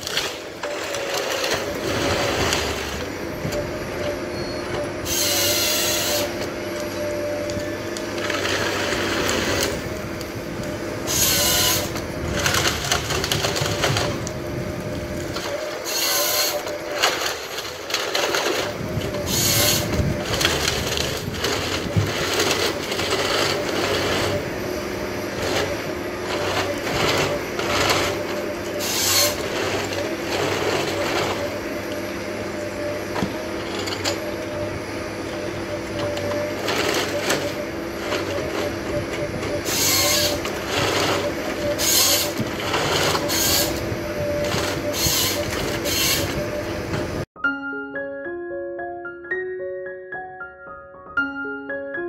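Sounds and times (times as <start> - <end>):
crackling of sawing logs: 0.0 - 4.2, 5.0 - 47.3
diesel engine and hydraulics whine: 0.0 - 47.4.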